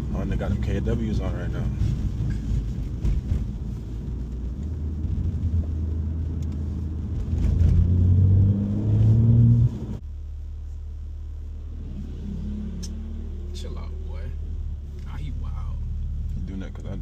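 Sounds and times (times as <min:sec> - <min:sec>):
car engine accelerating: 0:00.0 - 0:10.0, 0:11.2 - 0:17.0
low drone of cruising: 0:00.0 - 0:17.0.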